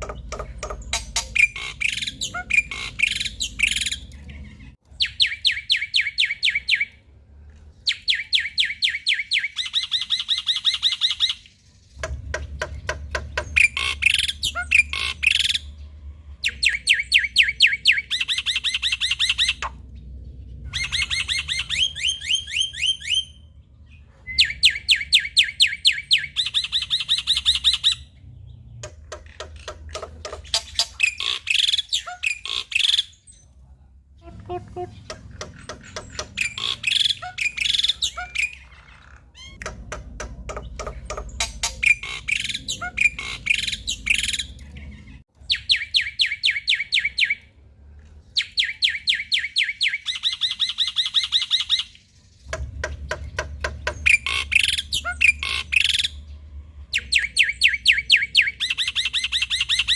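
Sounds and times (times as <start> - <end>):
harsh bird calls: 0.0 - 7.0, 7.8 - 33.5, 34.2 - 47.6, 48.2 - 59.9.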